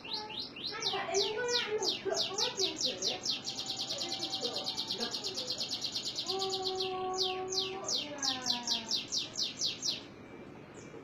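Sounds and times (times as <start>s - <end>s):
canary singing trills: 0.0s - 11.0s.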